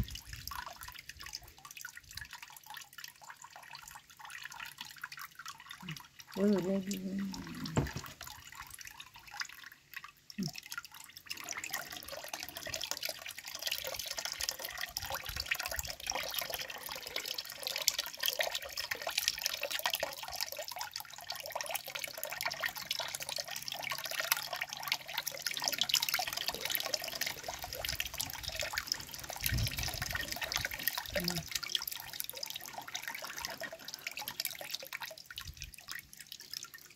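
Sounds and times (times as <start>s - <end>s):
liquid splashing and dripping: 0.0s - 36.9s.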